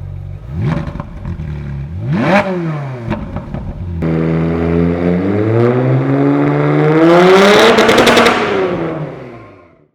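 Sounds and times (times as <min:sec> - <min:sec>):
car engine accelerating hard: 0:00.5 - 0:09.7.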